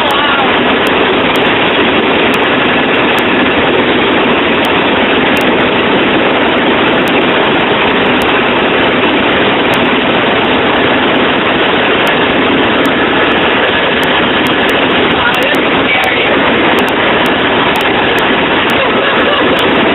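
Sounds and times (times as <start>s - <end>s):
helicopter in flight: 0.0s - 19.9s.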